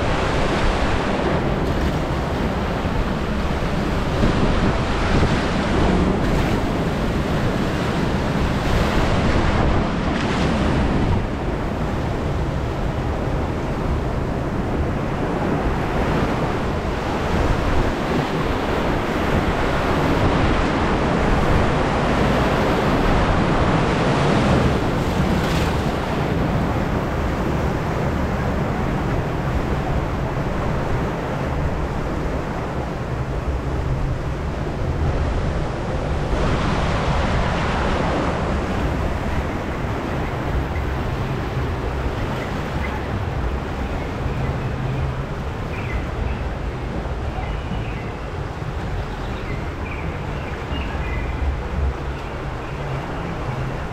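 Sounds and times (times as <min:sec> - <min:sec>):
churning whitewater rushing: 0:00.0 - 0:53.9
wind buffeting microphone: 0:00.0 - 0:53.9.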